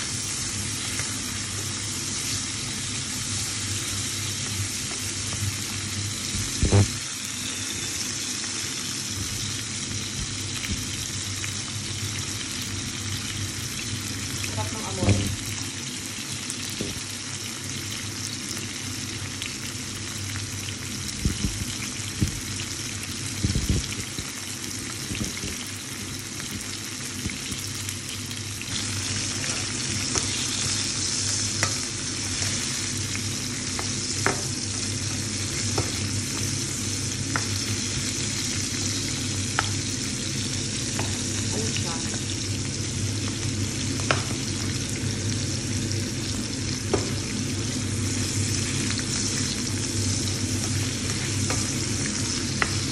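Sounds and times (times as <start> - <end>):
vegetables sizzling in oil: 0.0 - 52.9.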